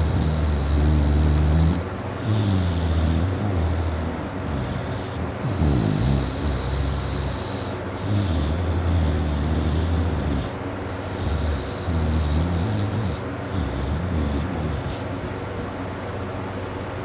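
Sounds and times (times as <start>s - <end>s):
man snoring loudly: 0.0s - 15.3s.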